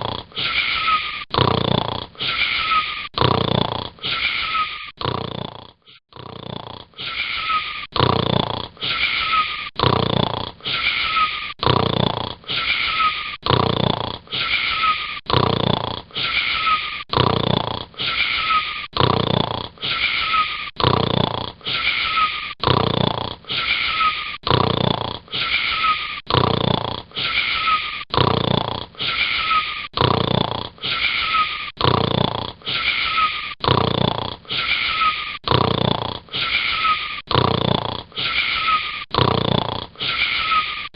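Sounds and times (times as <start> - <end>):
wheezy snoring: 0.0 - 40.9.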